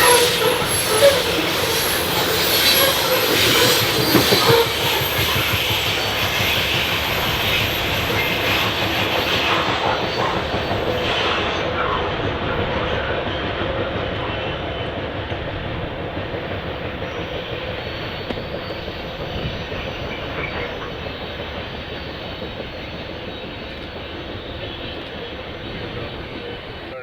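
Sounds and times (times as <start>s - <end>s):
train cars rumbling and rattling: 0.0s - 27.0s.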